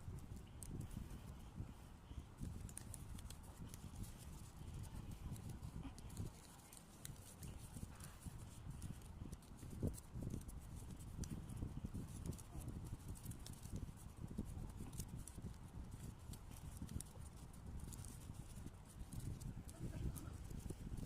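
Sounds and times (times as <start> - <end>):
paper being folded: 2.4 - 21.0.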